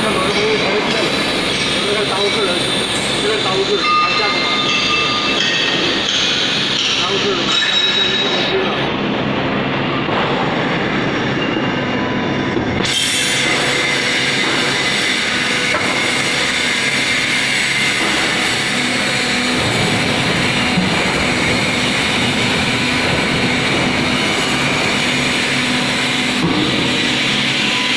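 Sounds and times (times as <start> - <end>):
baler machine humming and clattering: 0.0 - 27.9.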